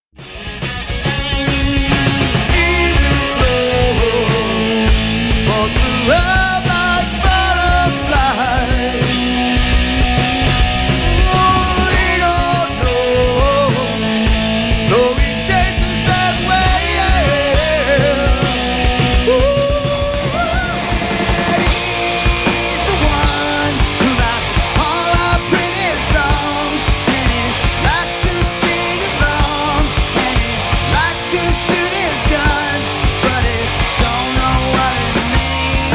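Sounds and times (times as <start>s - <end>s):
rock band music: 0.1s - 35.9s
bending electric guitar lead: 0.2s - 35.9s.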